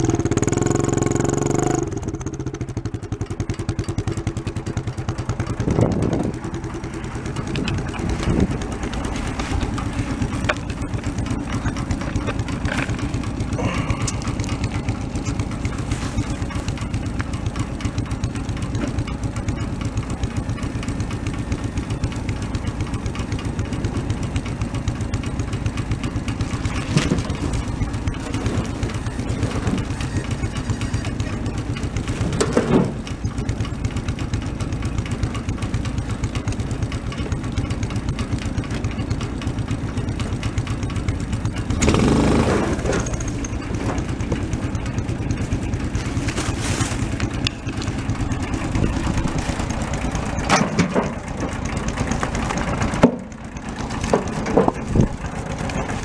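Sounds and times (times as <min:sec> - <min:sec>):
atv engine idling: 0:00.0 - 0:56.0
logs knocking and clattering: 0:03.4 - 0:21.1, 0:25.6 - 0:30.4, 0:31.1 - 0:41.8, 0:42.5 - 0:56.0.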